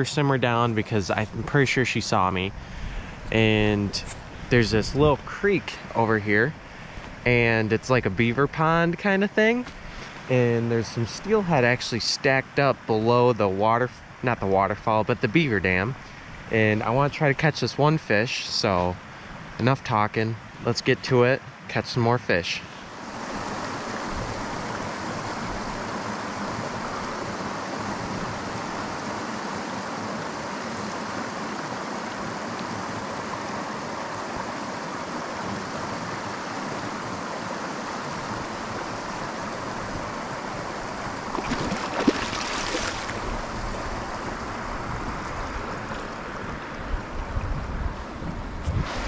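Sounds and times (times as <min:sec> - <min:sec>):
creek flowing over riffle: 0:00.0 - 0:49.0.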